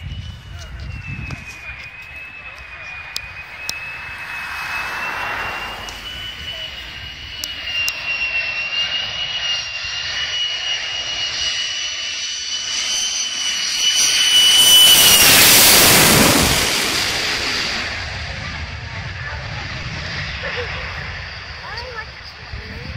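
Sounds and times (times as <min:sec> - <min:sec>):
jet engine passing overhead: 0:00.0 - 0:22.9.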